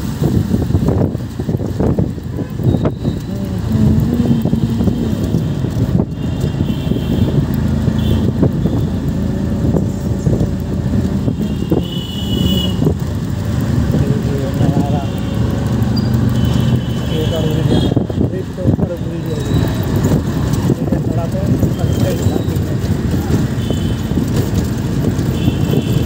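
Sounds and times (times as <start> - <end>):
passing traffic: 0.0 - 26.0
vehicle engine and road noise: 0.0 - 26.0.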